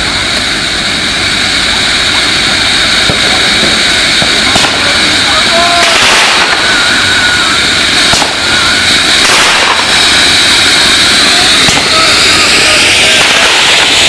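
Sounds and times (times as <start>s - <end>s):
firework fountain hissing: 0.0s - 14.0s
sharp crackles: 0.0s - 14.0s.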